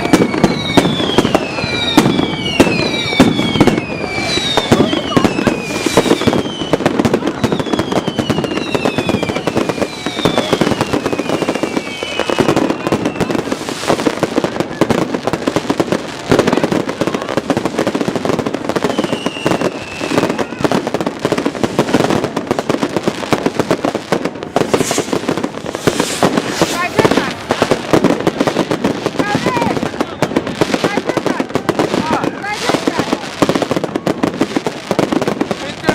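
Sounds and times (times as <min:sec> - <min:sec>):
fireworks crackling and banging: 0:00.0 - 0:35.9
whistling fireworks: 0:00.0 - 0:35.9.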